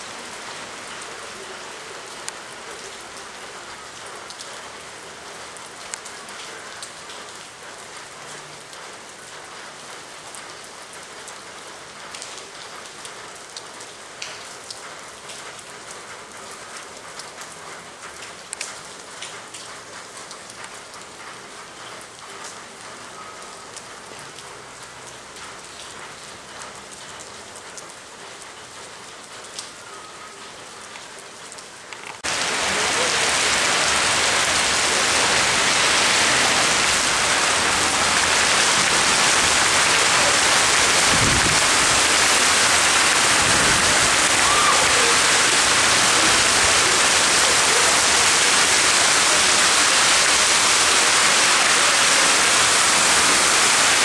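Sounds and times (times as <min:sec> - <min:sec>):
heavy rain downpour: 0:00.0 - 0:54.0.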